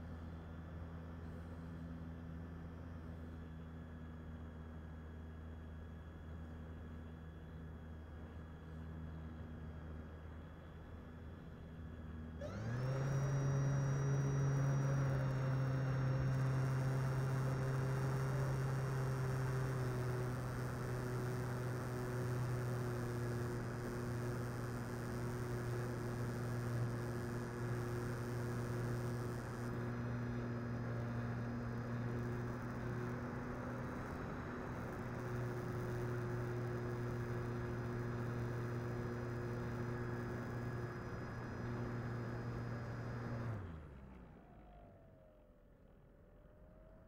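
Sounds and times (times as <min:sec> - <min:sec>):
model plane motor and propeller: 0:00.0 - 0:47.0.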